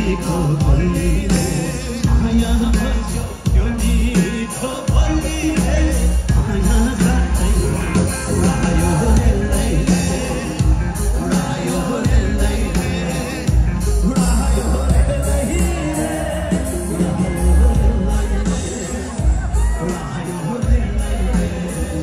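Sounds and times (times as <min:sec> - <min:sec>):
heavy bass: 0:00.0 - 0:22.0
live band music through loudspeakers: 0:00.0 - 0:22.0
man singing: 0:00.0 - 0:22.0.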